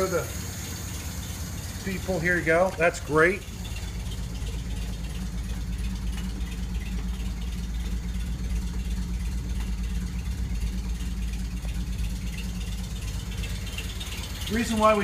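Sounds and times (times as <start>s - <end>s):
car engine idling slowly: 0.0s - 15.0s.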